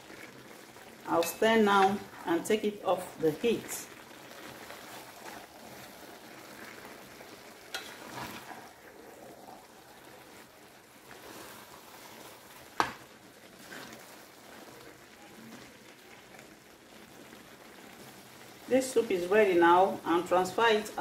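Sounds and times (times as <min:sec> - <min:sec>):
food sizzling in a frying pan: 0:00.0 - 0:21.0
spatula stirring food: 0:00.1 - 0:19.3.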